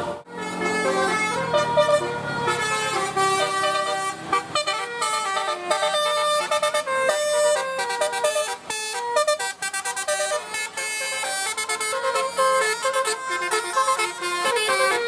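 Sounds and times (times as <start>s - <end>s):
musical air horn melody: 0.0s - 15.0s.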